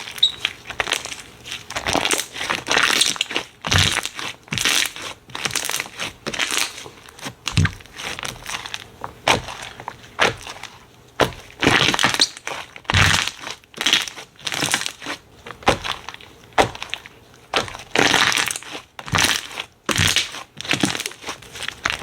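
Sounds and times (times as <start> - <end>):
slime squishing: 0.0 - 22.0.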